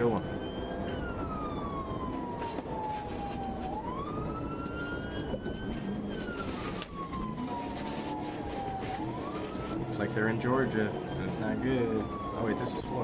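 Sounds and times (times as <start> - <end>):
police siren wailing: 0.0 - 13.0
road and engine rumble: 0.0 - 13.0.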